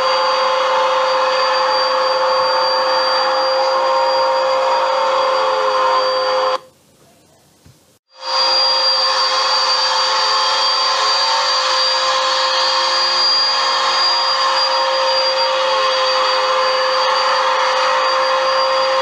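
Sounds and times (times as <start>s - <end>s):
vacuum cleaner running on carpet: 0.0s - 6.6s, 8.1s - 19.0s.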